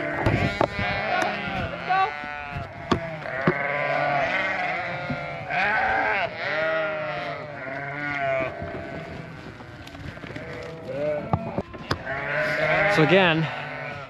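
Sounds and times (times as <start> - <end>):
sheep and lambs bleating: 0.0 - 14.0.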